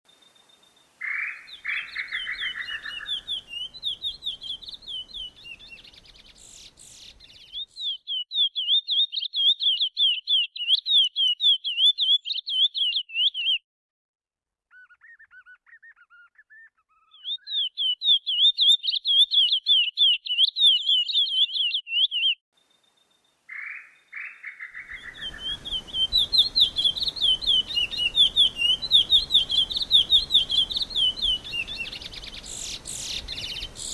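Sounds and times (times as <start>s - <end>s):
songbird warbling: 0.5s - 13.6s, 14.7s - 22.4s, 23.5s - 33.9s.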